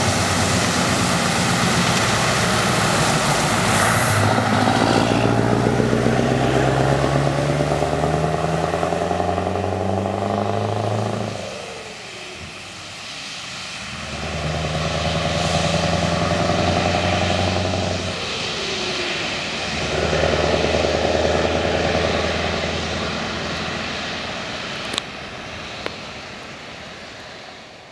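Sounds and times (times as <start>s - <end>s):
diesel truck pulling away: 0.0s - 26.0s.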